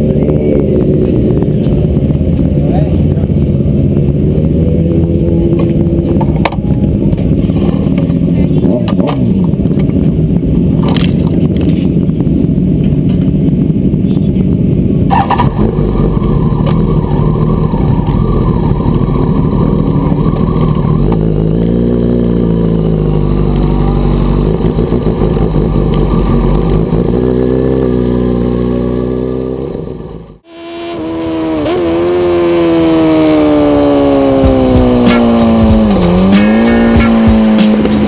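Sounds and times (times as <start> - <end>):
motorbike engine idling: 0.0 - 30.5, 33.5 - 38.0.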